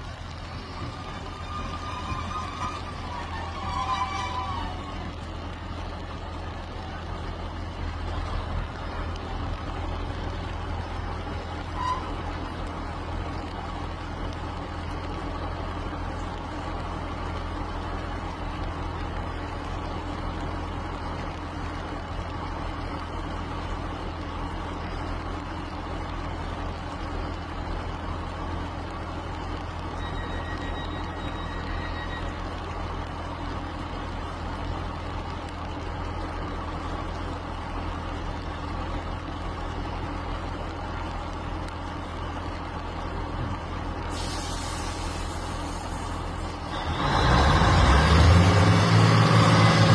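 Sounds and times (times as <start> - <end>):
train engine humming: 0.0 - 49.9.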